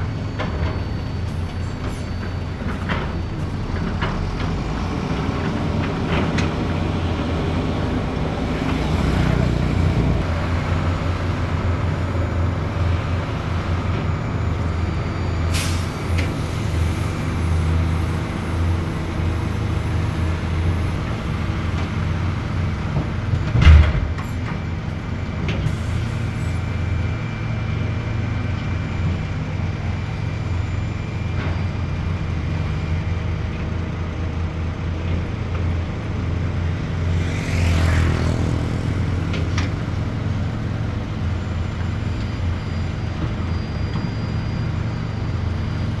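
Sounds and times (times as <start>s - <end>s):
heavy diesel engines droning: 0.0s - 46.0s.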